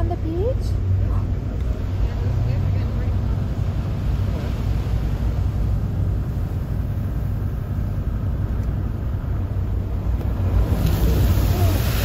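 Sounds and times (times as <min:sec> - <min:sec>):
truck rumbling on wet sand: 0:00.0 - 0:12.0.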